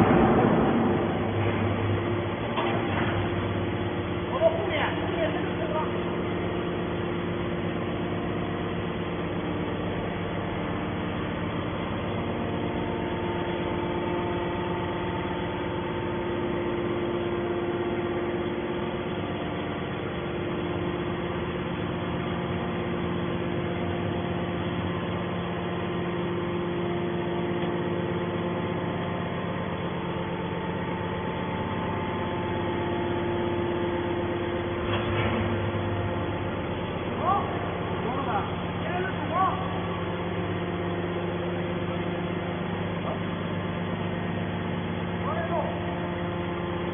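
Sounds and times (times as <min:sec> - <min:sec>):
baler motor and pump droning: 0:00.0 - 0:46.9.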